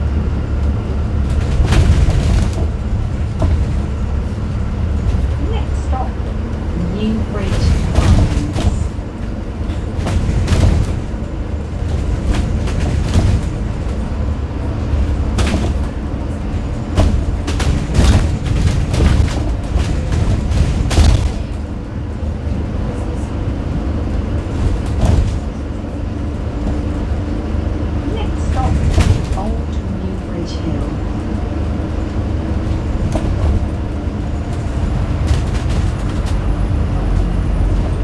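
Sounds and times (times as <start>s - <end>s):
bus engine and road rumble: 0.0s - 38.0s
bodywork knocks and rattles: 0.4s - 29.8s, 30.9s - 38.0s.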